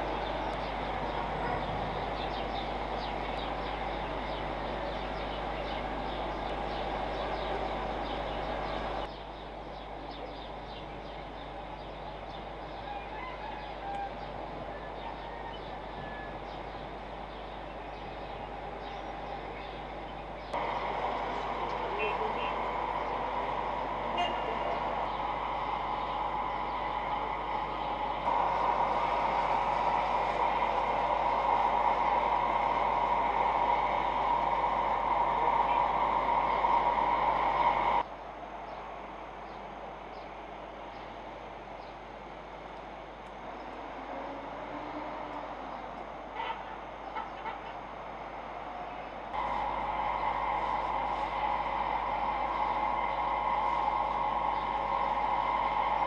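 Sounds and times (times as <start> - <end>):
distant city traffic: 0.0 - 56.0.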